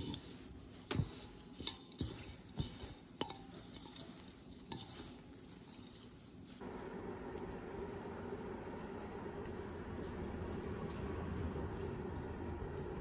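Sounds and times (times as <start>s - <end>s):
leaves rustling in bowl: 0.0s - 13.0s.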